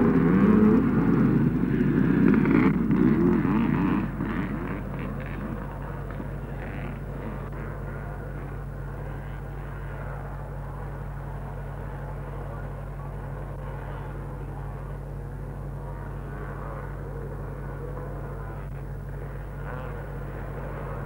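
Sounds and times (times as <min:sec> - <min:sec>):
distant motorcycle engines: 0:00.0 - 0:21.0
low recording hum: 0:00.0 - 0:21.0.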